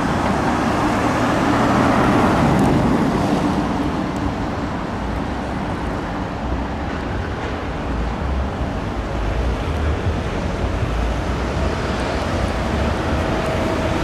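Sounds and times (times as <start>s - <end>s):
buses and cars passing: 0.0s - 14.0s
rumble of engines and tyres: 0.0s - 14.0s.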